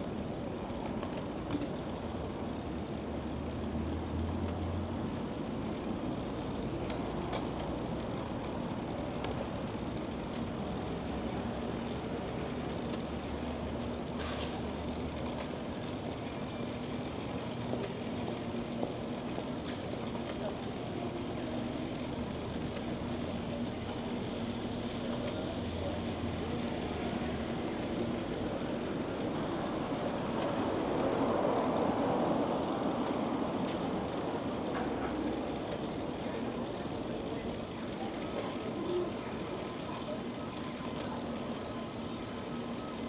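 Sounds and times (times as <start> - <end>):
city traffic noise: 0.0 - 43.0.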